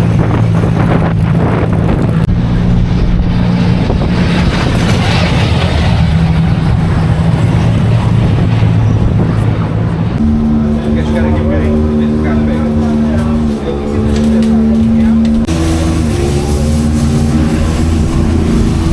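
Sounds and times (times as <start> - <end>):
car engine running loud: 0.0 - 18.9.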